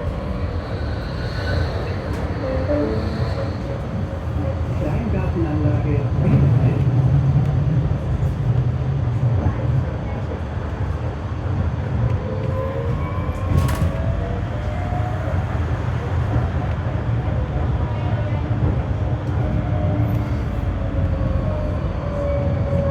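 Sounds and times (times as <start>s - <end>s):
tram wheels rumbling: 0.0s - 22.9s.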